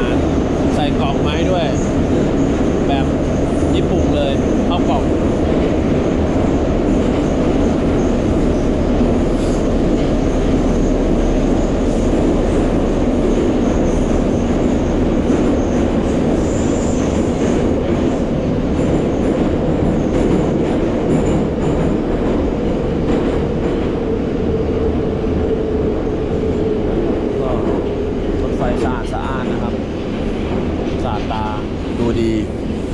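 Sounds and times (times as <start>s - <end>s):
metro car wheels rumbling: 0.0s - 32.9s.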